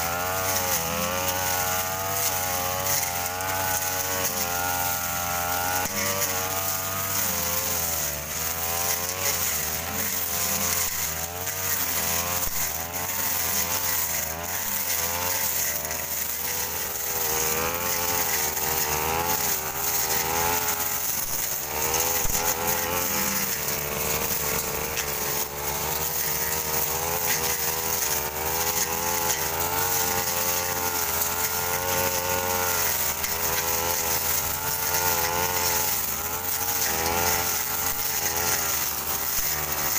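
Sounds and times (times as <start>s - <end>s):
brush cutter engines wavering: 0.0s - 39.9s.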